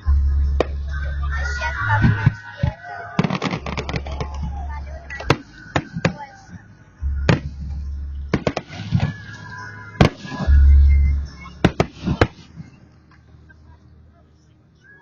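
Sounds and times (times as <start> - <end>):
deep low rumble: 0.0 - 2.4, 3.2 - 14.0
fireworks bursting: 0.0 - 13.3.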